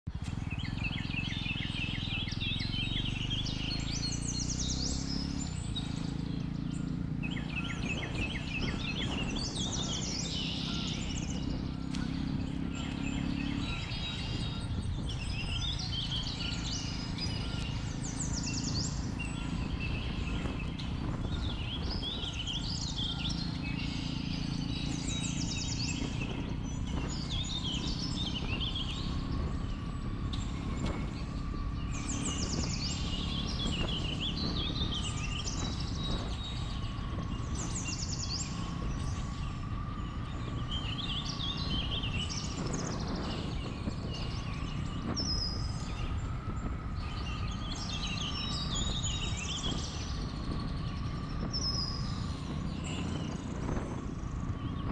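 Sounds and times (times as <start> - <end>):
birds chirping and trilling: 0.1 - 54.9
motorcycle engine running: 0.1 - 54.9
wind rumble: 0.1 - 54.9.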